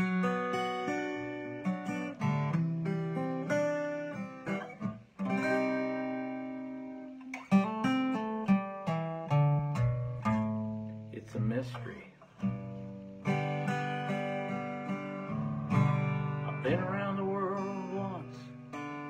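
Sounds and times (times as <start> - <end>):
acoustic guitar strummed: 0.0 - 19.0.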